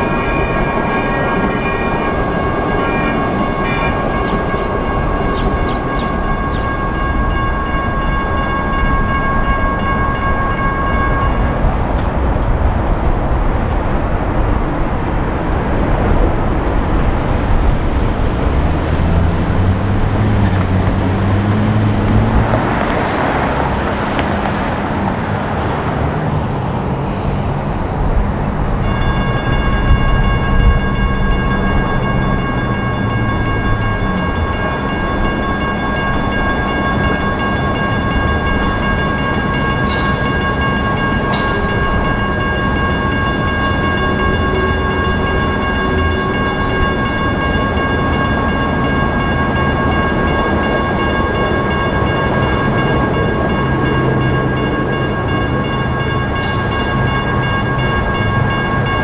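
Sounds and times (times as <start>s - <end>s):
electronic crossing bells ringing: 0.0s - 12.8s, 14.8s - 27.4s, 28.2s - 59.0s
rumble of passing trains: 0.0s - 59.0s
street and traffic noise: 0.0s - 59.0s.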